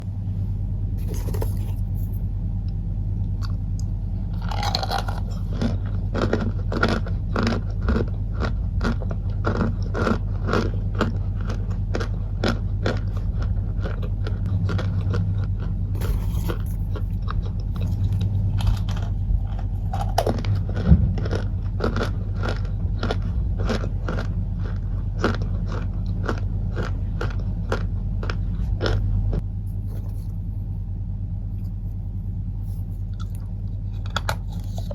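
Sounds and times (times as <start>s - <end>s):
steady low hum: 0.0s - 34.9s
crunchy food bitten and chewed: 1.0s - 2.2s, 3.2s - 30.7s, 31.5s - 34.9s.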